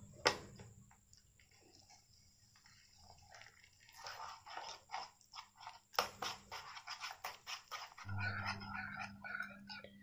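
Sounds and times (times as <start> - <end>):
whisk beating batter in a bowl: 1.1 - 10.0.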